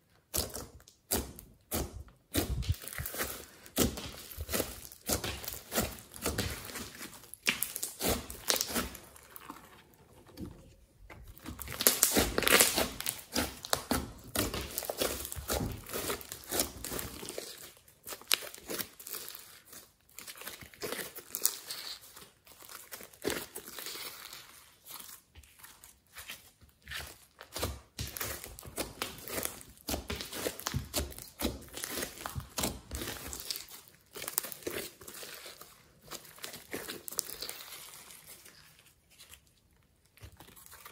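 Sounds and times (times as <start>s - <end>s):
slime squelching and crackling: 0.0s - 40.9s.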